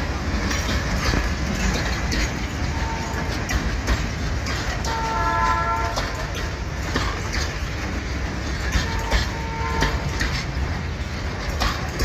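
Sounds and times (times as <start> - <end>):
freight cars rumbling past: 0.0 - 12.0
wheels clattering over rail joints: 0.0 - 12.0.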